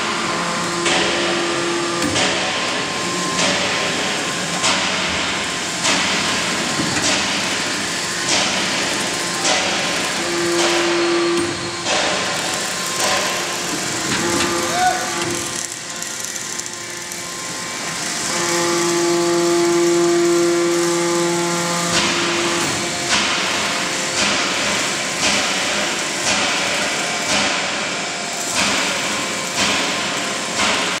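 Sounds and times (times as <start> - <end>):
machinery humming whine: 0.0 - 31.0.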